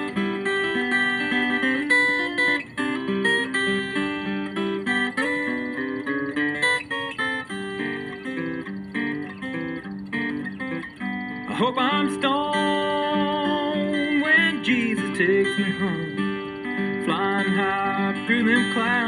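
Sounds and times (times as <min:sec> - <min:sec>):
country acoustic guitar picking: 0:00.0 - 0:19.0.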